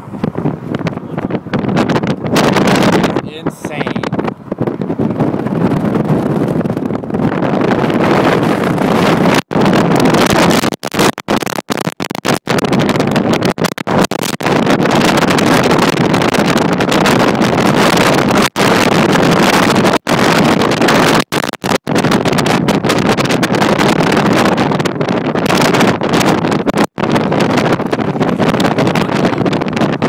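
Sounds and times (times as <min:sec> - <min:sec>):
wind roaring on microphone: 0:00.0 - 0:30.0.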